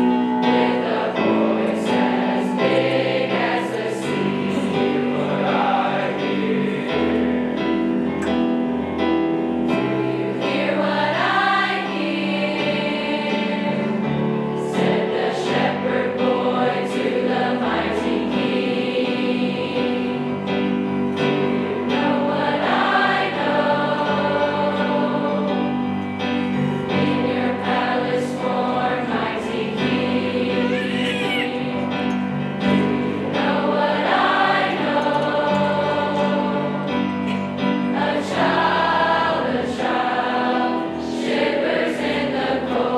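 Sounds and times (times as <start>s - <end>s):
choir singing in parts: 0.0s - 8.2s, 9.2s - 42.9s
low held accompaniment notes: 0.0s - 42.9s.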